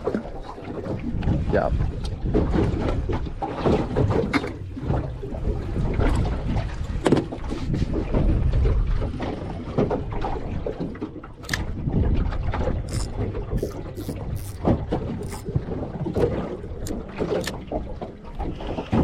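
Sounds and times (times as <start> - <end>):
water slapping against boat hull: 0.0 - 19.0
wind buffeting microphone: 0.0 - 19.0.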